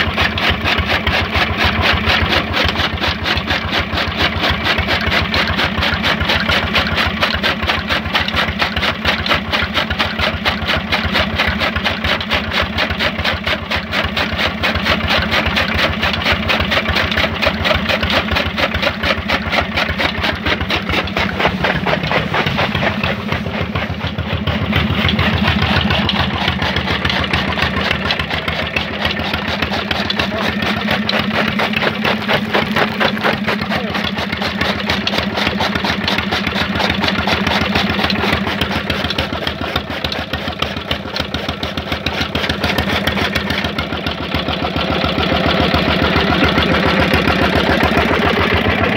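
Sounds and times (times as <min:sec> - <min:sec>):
chaff cutter chopping fodder: 0:00.0 - 0:48.9
diesel engine chugging: 0:00.0 - 0:48.9.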